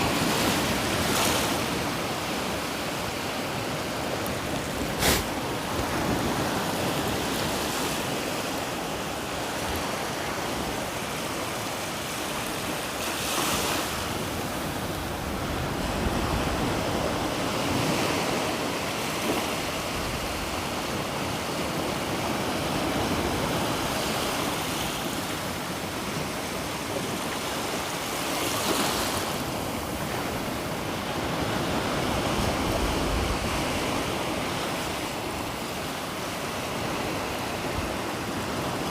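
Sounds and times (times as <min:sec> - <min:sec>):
surf breaking on shore: 0:00.0 - 0:38.9
wind: 0:00.0 - 0:38.9.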